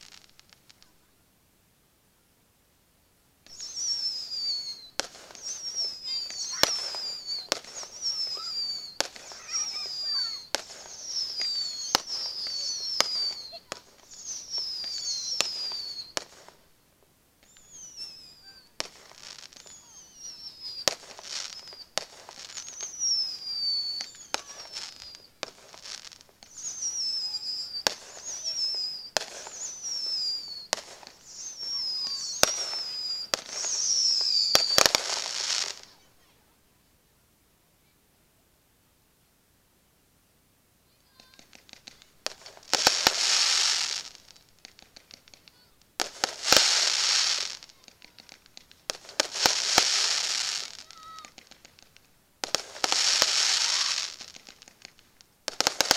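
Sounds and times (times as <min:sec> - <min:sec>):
firework whistles falling: 0:00.0 - 0:00.9, 0:03.4 - 0:16.8, 0:17.4 - 0:36.4, 0:40.9 - 0:55.9
firework bangs: 0:03.4 - 0:36.4, 0:40.9 - 0:55.9.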